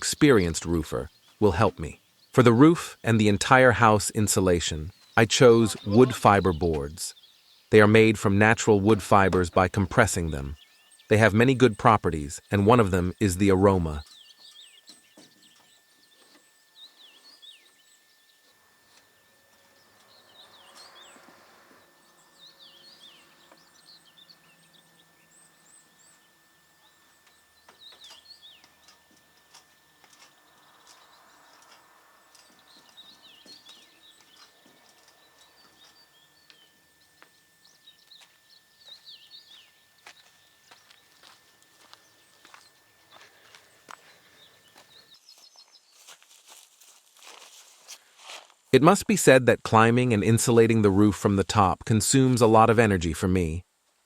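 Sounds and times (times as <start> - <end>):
small birds chirping: 0.0 - 46.7.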